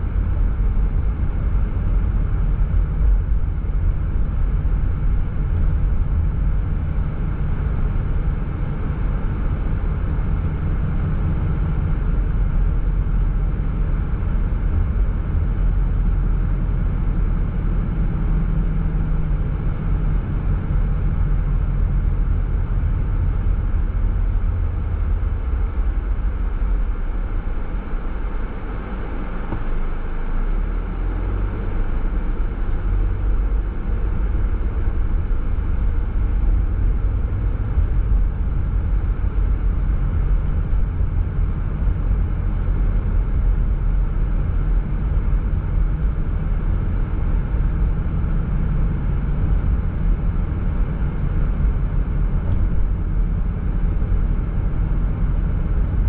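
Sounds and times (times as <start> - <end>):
car driving road rumble: 0.0 - 56.0.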